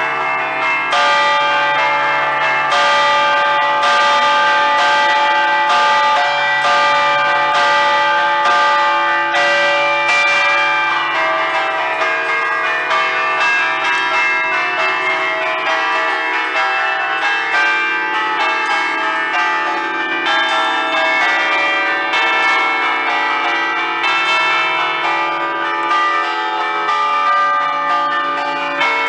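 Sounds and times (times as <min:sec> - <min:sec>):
church bells chiming: 0:00.0 - 0:29.0.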